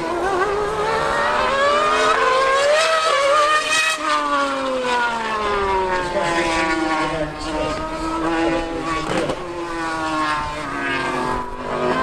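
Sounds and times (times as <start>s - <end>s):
racing engine accelerating: 0.0s - 12.0s.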